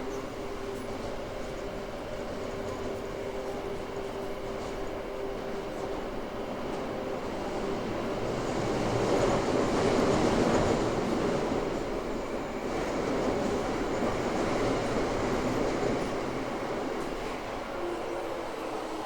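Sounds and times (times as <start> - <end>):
subway train wheels rumbling on track: 0.0 - 19.0.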